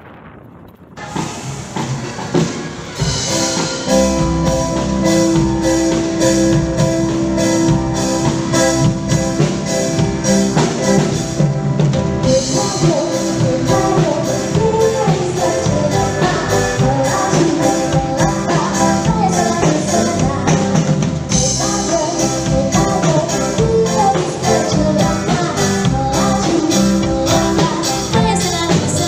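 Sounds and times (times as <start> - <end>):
steady drum beat: 1.0 - 29.0
person singing: 3.0 - 11.4, 12.2 - 29.0.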